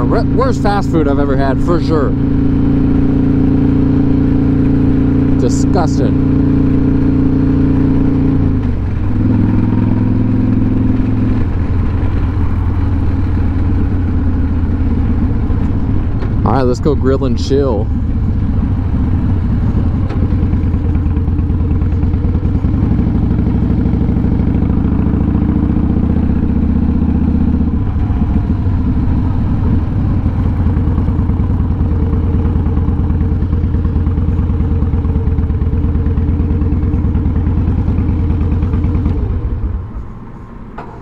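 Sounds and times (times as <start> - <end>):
motorcycle engine pulsing: 0.0 - 41.0.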